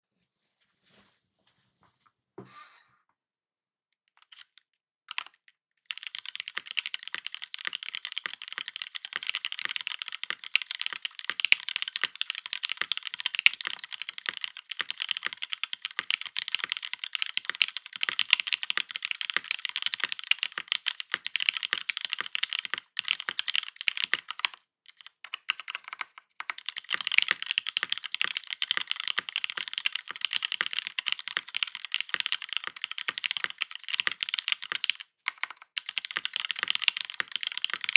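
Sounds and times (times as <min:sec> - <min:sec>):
mechanical keyboard typing: 0:05.1 - 0:37.9.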